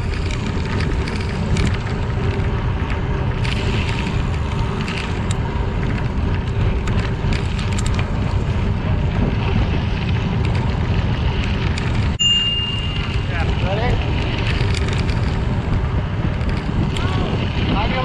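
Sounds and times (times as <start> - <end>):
gravel ticks: 0.0 - 18.0
tyres rolling on gravel: 0.0 - 18.0
wind buffeting microphone: 0.0 - 18.0.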